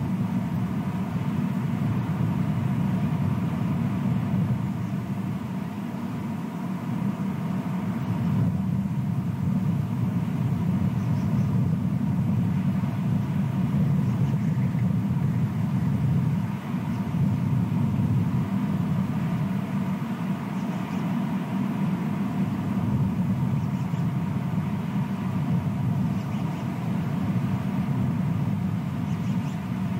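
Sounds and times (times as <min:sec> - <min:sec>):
low outdoor rumble: 0:00.0 - 0:29.9.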